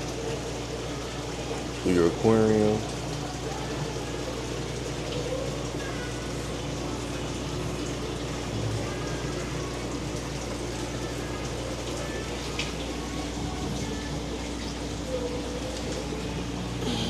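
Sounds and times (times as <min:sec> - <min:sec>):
filter pumps humming: 0:00.0 - 0:17.0
running splashing water: 0:00.0 - 0:17.0.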